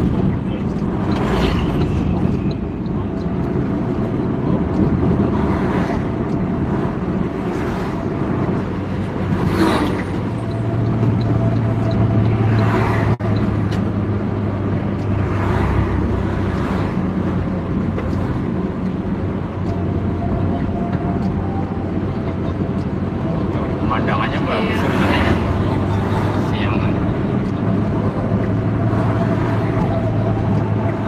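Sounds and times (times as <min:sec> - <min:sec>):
heavy vehicles passing: 0:00.0 - 0:31.0
low diesel engine drone: 0:00.0 - 0:31.0.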